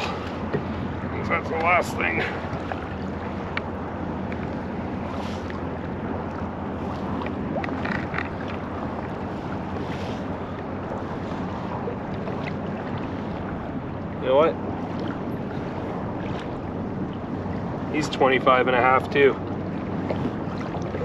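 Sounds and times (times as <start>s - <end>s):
water lapping against hull: 0.0s - 21.0s
wind buffeting microphone: 0.0s - 21.0s.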